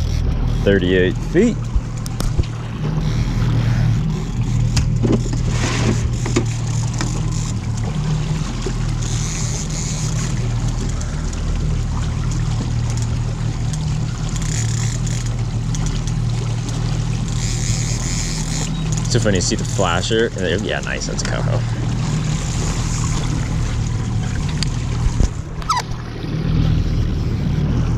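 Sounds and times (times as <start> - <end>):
outboard motor humming: 0.0 - 27.9
water washing along hull: 0.0 - 27.9.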